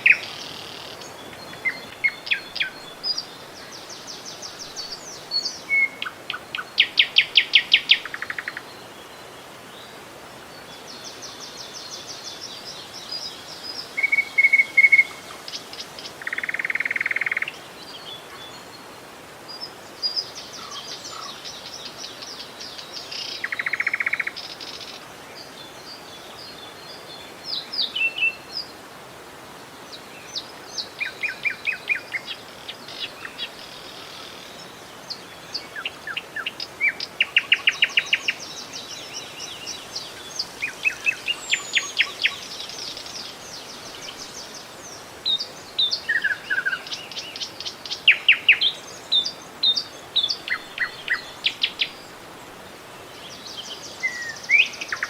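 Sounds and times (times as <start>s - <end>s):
songbirds singing: 0.0s - 55.0s
steady background hiss: 0.0s - 55.0s.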